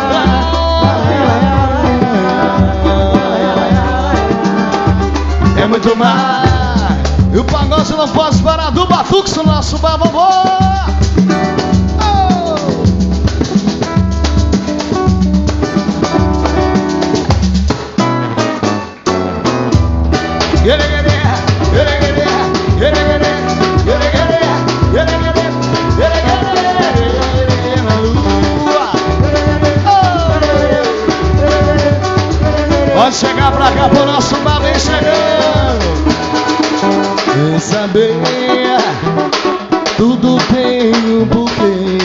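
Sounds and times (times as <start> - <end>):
drums: 0.0 - 42.0
samba band playing: 0.0 - 42.0.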